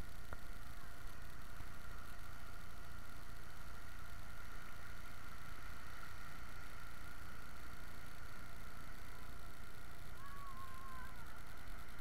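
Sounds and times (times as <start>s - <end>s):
camera self-noise hiss and whine: 0.0s - 12.0s.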